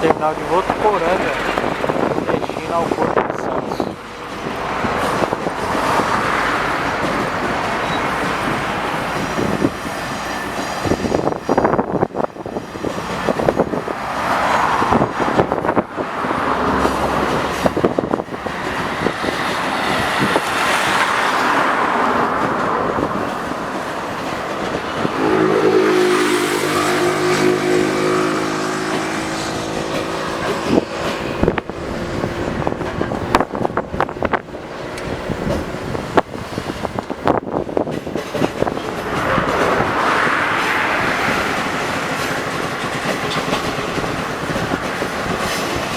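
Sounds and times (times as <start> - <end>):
train wheels clicking over rail joints: 0.0 - 25.2, 26.5 - 45.9
freight wagons rumbling: 0.0 - 45.9.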